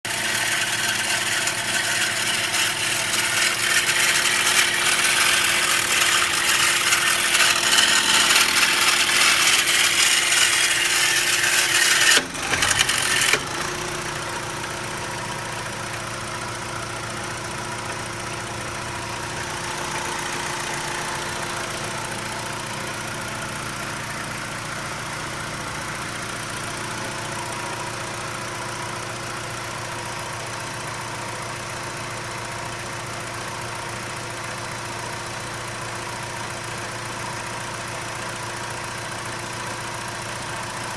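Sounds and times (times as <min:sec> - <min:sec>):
car engine idling with rattling: 0:00.0 - 0:40.9.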